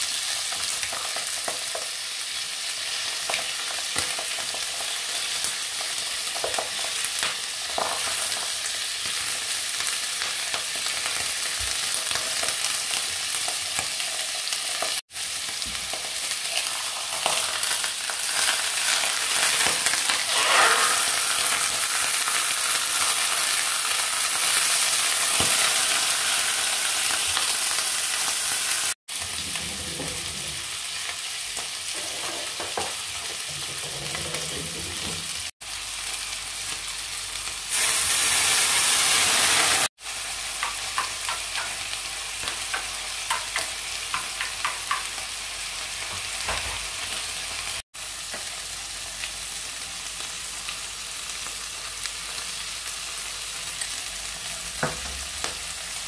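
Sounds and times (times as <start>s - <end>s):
squid sizzling in a frying pan: 0.0s - 33.9s, 34.5s - 56.0s.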